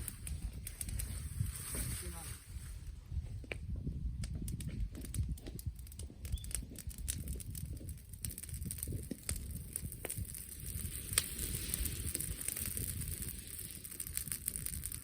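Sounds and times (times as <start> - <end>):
bonfire crackling and popping: 0.0 - 15.0
wind rumble on microphone: 0.0 - 15.0.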